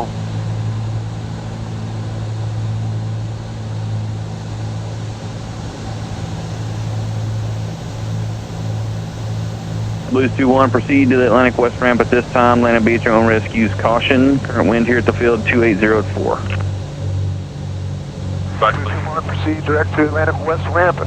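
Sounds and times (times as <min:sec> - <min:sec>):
aircraft cabin engine drone: 0:00.0 - 0:21.0.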